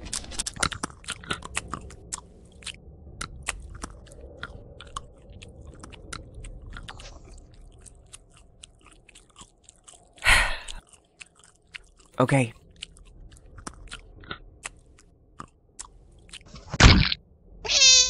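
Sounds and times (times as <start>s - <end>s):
animal chewing and crunching food: 0.0s - 17.2s.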